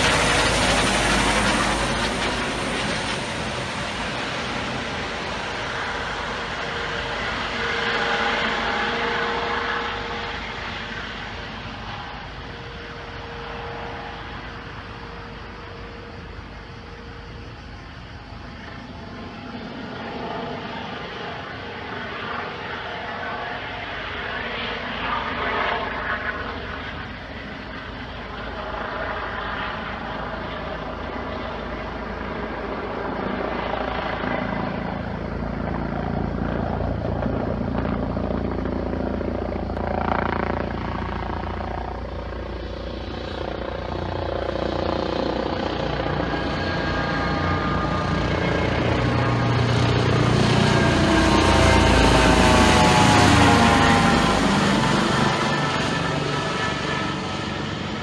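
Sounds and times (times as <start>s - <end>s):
helicopter flying: 0.0s - 58.0s.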